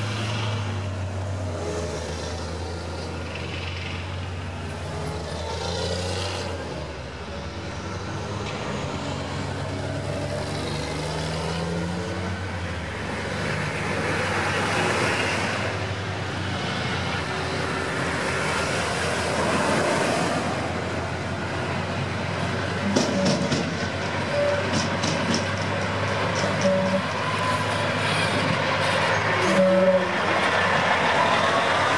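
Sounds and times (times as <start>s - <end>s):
military vehicles driving past: 0.0s - 31.9s.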